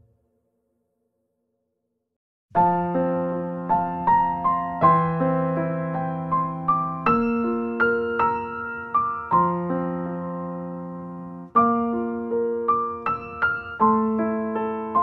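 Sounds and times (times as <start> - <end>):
piano music: 2.5 - 15.0.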